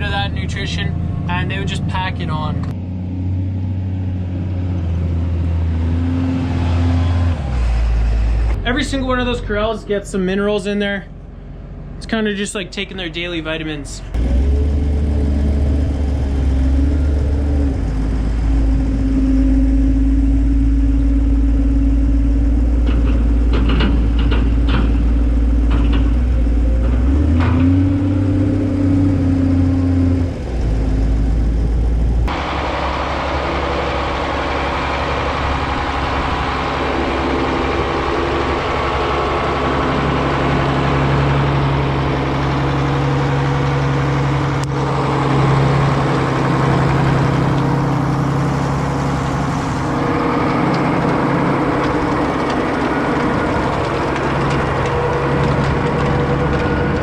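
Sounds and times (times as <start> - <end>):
farm vehicle engine running: 0.0 - 57.0.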